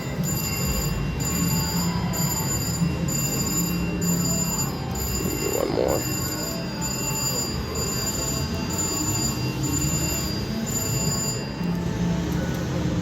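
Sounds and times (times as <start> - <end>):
slot machine chimes: 0.0 - 11.9.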